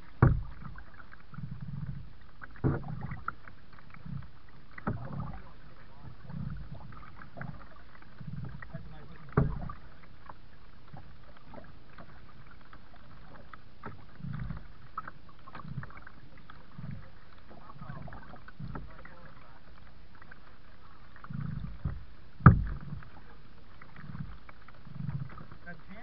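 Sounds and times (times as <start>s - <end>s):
paddle strokes in water: 0.0s - 26.0s.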